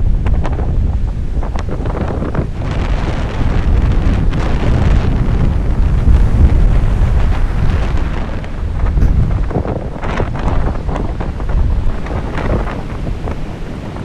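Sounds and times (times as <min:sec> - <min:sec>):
rough sea rushing: 0:00.0 - 0:14.0
storm wind buffeting microphone: 0:00.0 - 0:14.0.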